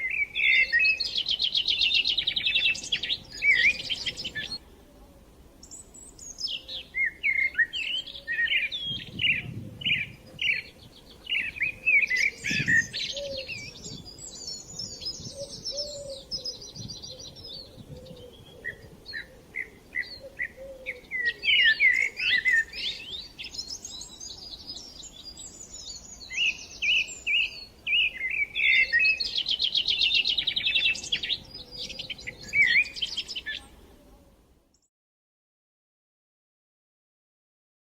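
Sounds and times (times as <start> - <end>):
birds chirping and trilling: 0.0 - 4.6, 5.6 - 34.1.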